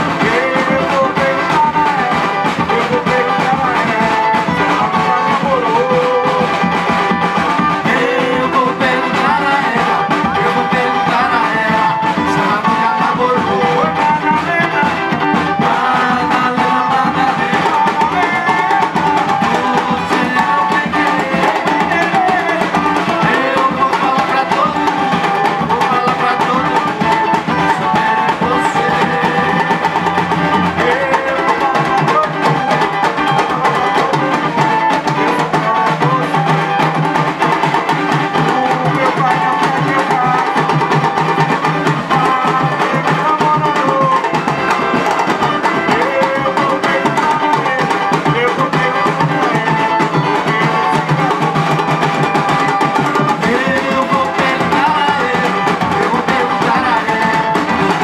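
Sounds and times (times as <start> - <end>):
pitched melody: 0.0 - 58.0
samba band drums and percussion: 0.0 - 58.0.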